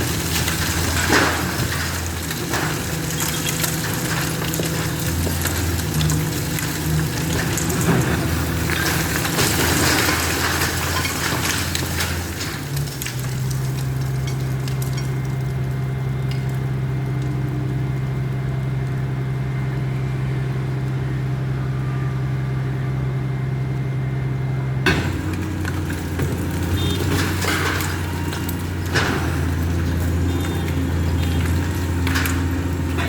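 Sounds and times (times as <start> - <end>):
heavy machine engine running: 0.0 - 33.0.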